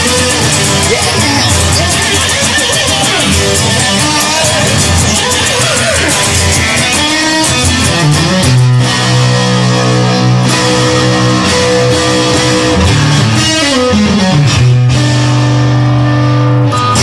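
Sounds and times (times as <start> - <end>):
bass guitar: 0.0 - 17.0
electric guitar long held notes: 0.0 - 17.0.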